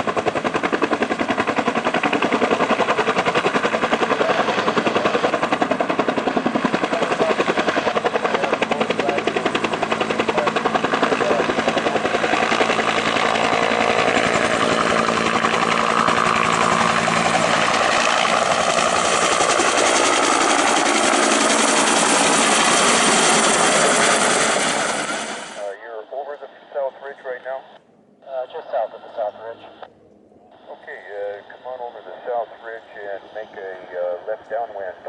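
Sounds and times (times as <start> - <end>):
helicopter rotor chopping: 0.0 - 29.9.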